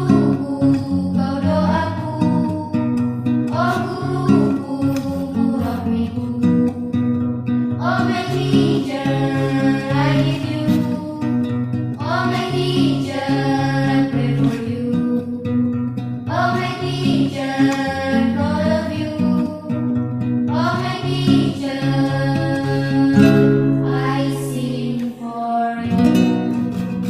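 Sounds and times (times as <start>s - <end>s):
vocal group singing slow song: 0.0s - 26.7s
acoustic guitar: 0.0s - 27.0s.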